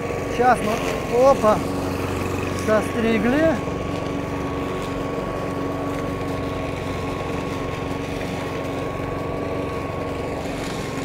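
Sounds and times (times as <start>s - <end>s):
lawn mower running: 0.0s - 11.0s.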